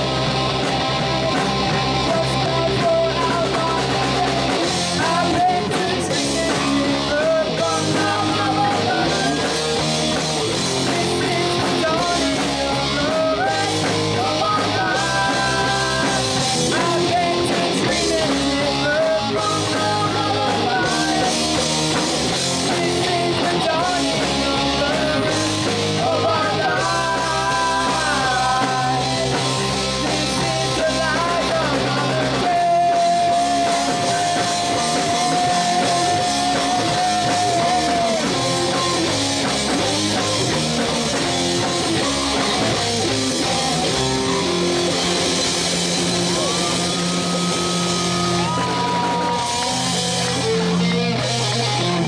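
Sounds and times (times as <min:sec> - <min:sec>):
rock band playing: 0:00.0 - 0:52.0
person singing: 0:01.4 - 0:44.7.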